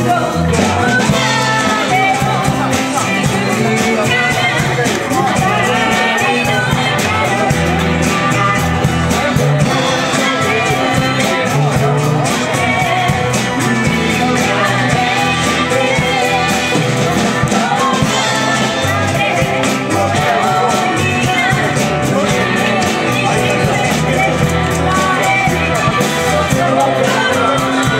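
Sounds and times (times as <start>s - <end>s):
acoustic guitar: 0.0s - 27.9s
drums keeping steady beat: 0.0s - 27.9s
electric bass: 0.0s - 27.9s
keyboard: 0.0s - 27.9s
women singing together: 0.0s - 27.9s.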